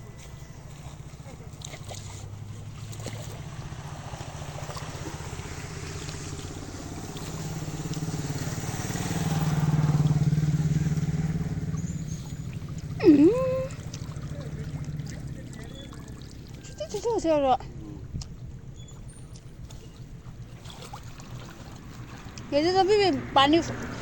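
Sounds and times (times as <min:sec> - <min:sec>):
vehicle engine passing by: 0:00.0 - 0:24.0.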